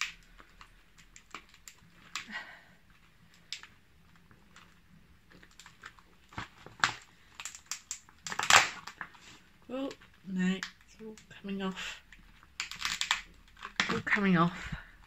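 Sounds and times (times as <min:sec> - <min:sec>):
plastic crinkling: 0:00.0 - 0:15.0.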